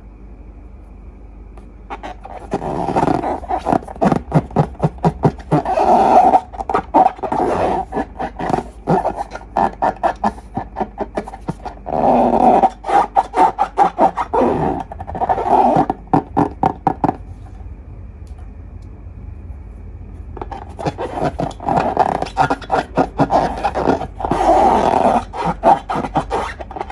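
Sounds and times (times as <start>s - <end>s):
slime squelching: 1.9s - 17.6s, 20.4s - 26.9s.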